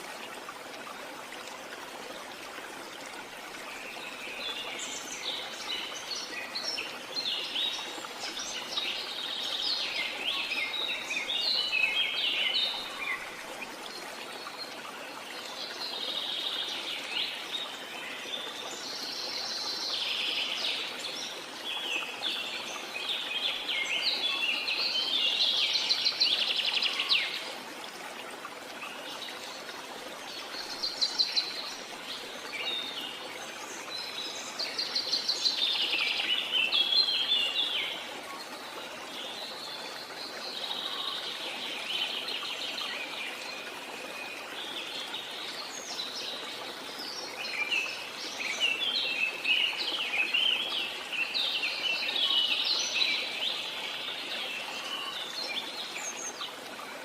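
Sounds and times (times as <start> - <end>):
falling water rushing: 0.0 - 57.0.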